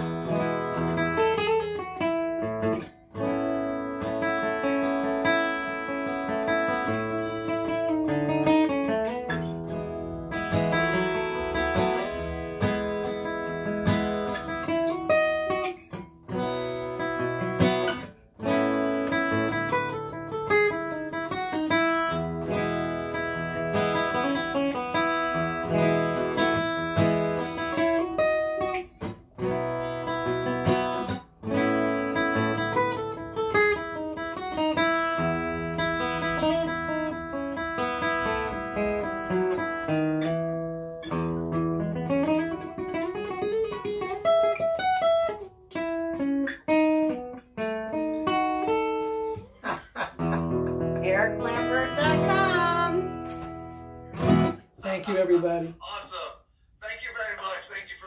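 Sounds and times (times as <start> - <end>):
solo acoustic guitar: 0.0 - 55.6.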